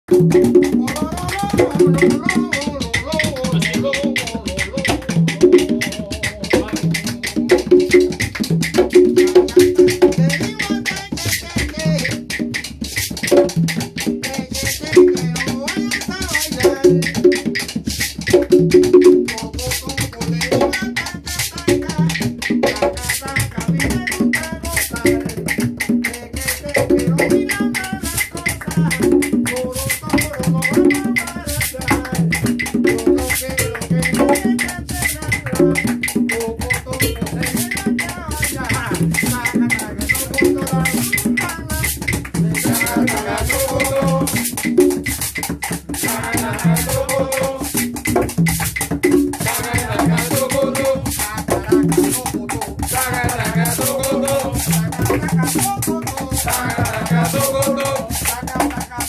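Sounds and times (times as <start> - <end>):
cajon drums playing: 0.0 - 59.0
conga drums playing: 0.0 - 59.0.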